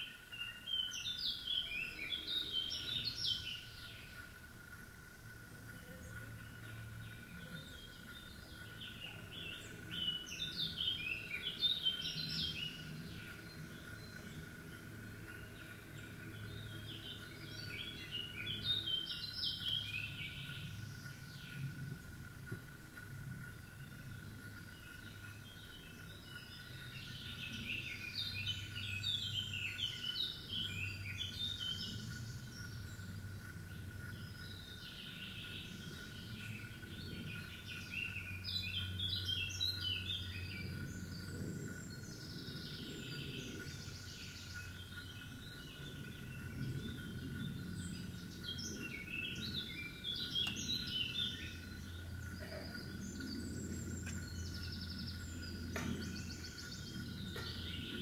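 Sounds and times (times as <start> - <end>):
songbird singing: 0.0 - 58.0
low hum: 0.9 - 58.0.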